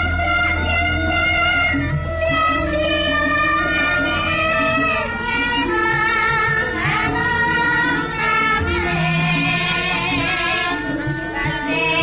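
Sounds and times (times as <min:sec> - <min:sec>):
woman singing: 0:00.0 - 0:12.0
gamelan ensemble playing: 0:01.6 - 0:12.0.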